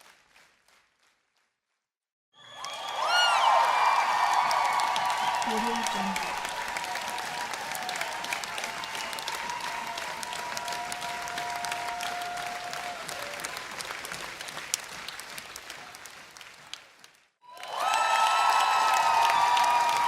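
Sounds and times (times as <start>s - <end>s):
audience applauding: 0.0s - 1.2s, 2.4s - 20.0s.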